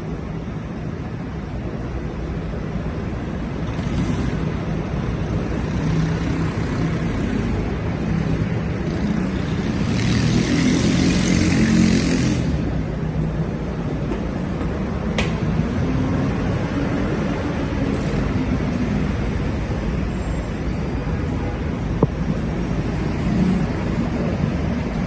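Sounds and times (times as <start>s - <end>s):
vehicle engines rumbling: 0.0s - 25.0s.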